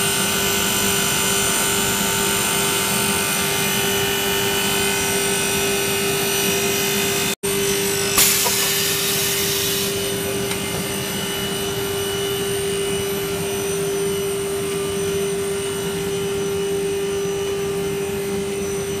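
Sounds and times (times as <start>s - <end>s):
extrusion machinery hum: 0.0s - 19.0s.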